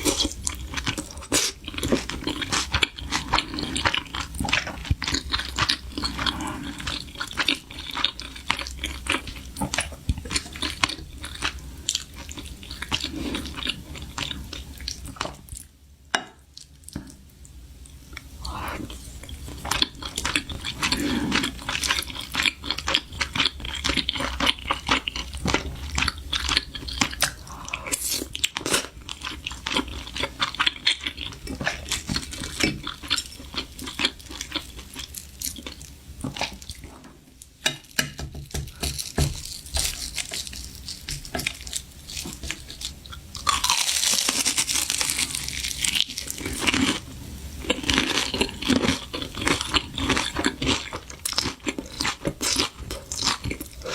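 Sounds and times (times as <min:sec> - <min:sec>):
person chewing crunchy food: 0:00.0 - 0:15.7, 0:18.1 - 0:53.9.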